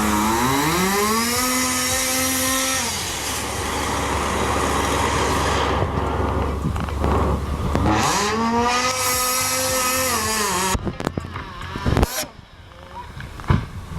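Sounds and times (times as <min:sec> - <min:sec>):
chainsaw engine revving: 0:00.0 - 0:12.4.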